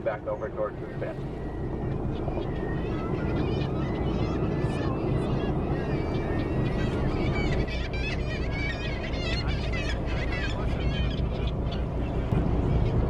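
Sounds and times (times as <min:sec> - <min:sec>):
birds calling: 0:00.0 - 0:13.0
boat engine running: 0:00.0 - 0:13.0.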